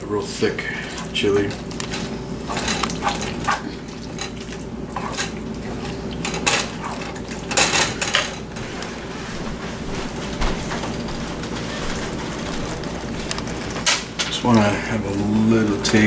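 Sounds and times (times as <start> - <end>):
chili cooking: 0.0 - 16.0.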